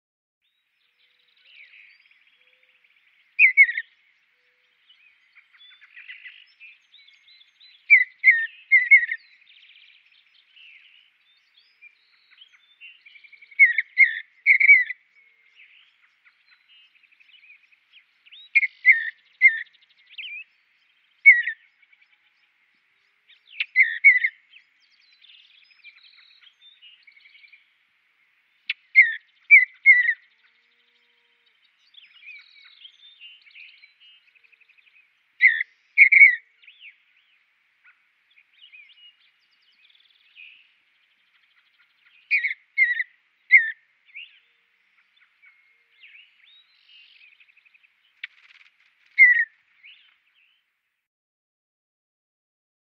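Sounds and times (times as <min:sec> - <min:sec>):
bird whistling song: 0:00.4 - 0:27.8, 0:28.6 - 0:50.6
bird chirps: 0:00.4 - 0:50.8.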